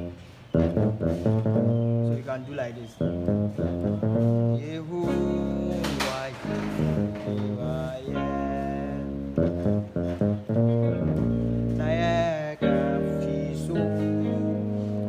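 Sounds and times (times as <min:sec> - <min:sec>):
bass guitar walking bass line: 0:00.0 - 0:15.0.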